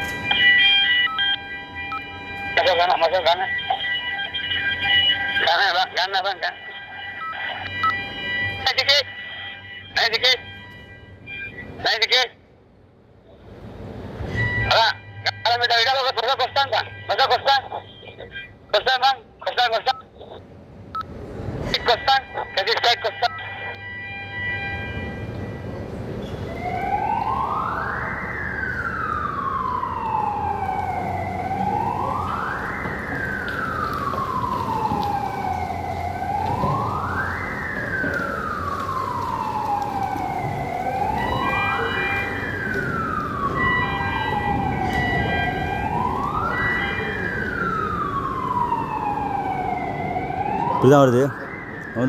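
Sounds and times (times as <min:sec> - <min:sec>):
siren wailing: 0:00.0 - 0:12.3, 0:14.2 - 0:20.4, 0:21.0 - 0:52.0.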